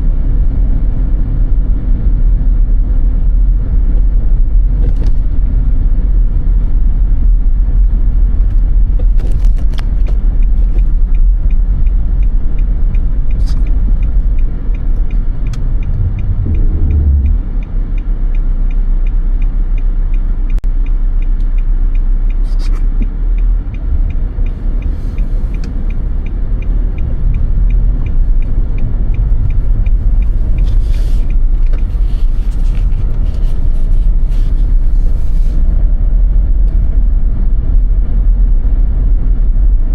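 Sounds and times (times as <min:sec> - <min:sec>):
car rumbling on snowy road: 0:00.0 - 0:39.9.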